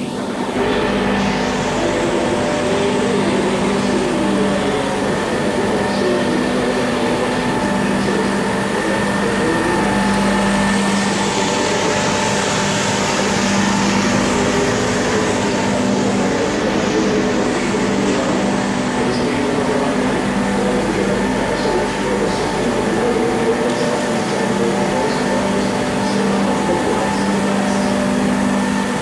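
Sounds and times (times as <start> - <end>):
floor scrubber humming and whining: 0.0 - 29.0.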